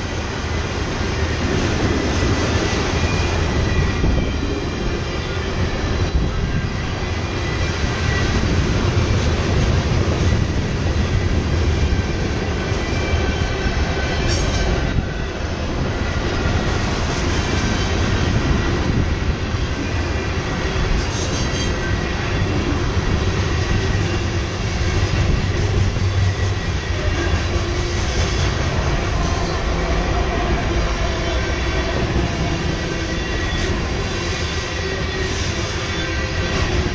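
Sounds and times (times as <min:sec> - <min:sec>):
diesel locomotive passing: 0:00.0 - 0:36.9
freight train rumbling on rails: 0:00.0 - 0:36.9
high whine from train wheels: 0:00.0 - 0:36.9.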